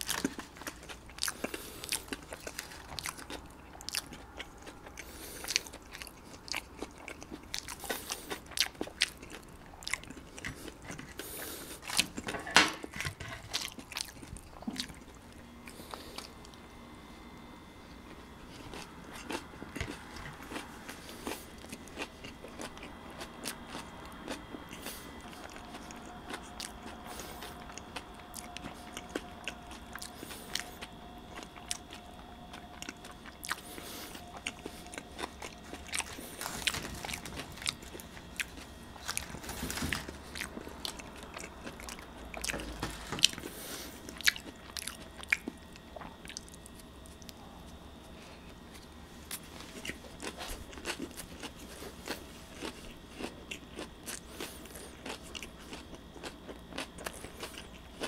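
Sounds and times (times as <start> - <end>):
soft steady chewing: 0.0 - 58.0.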